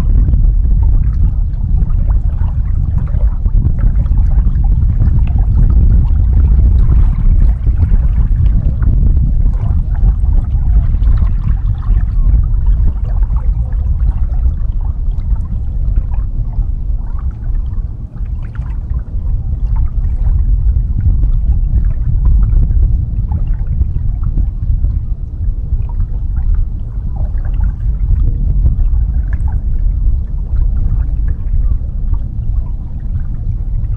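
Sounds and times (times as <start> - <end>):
steady low rumble: 0.0 - 33.9
water splashing against boat hull: 0.0 - 33.9.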